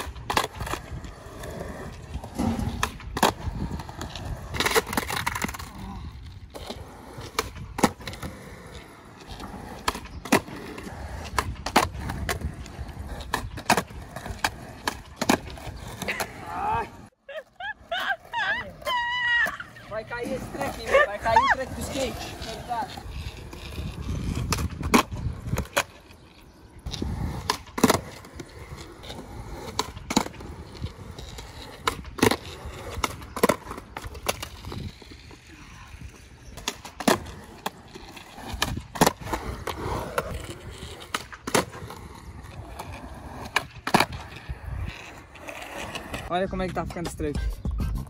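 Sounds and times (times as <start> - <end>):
skateboard clacking on concrete: 0.0 - 17.1, 18.8 - 47.7
skateboard wheels rumbling: 0.0 - 48.0.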